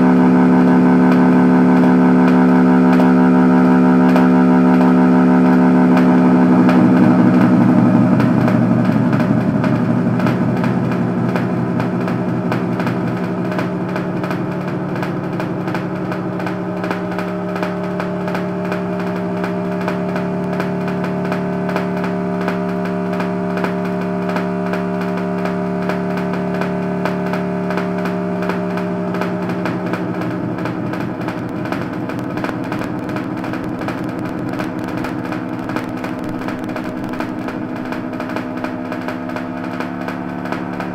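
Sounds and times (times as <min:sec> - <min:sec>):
distorted electronic drone: 0:00.0 - 0:40.9.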